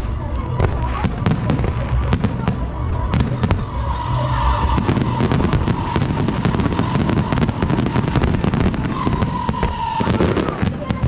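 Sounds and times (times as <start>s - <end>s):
low rumble: 0.0s - 10.4s
fireworks bursting and crackling: 0.0s - 11.0s.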